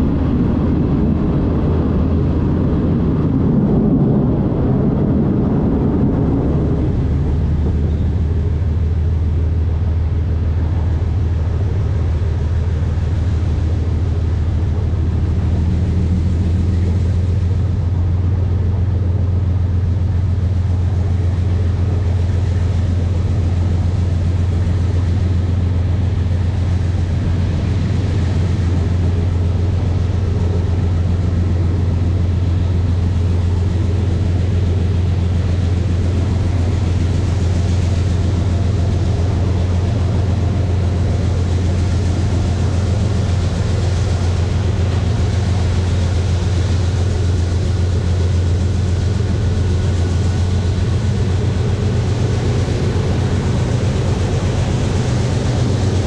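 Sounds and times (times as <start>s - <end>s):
diesel locomotive drone: 0.0s - 56.0s.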